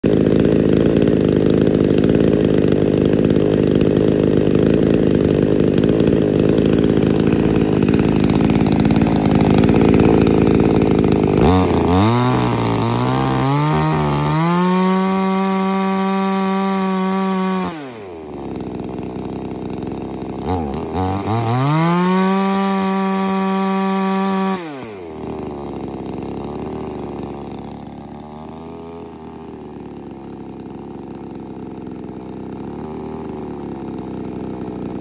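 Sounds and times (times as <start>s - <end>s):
chainsaw engine revving: 0.0s - 35.0s.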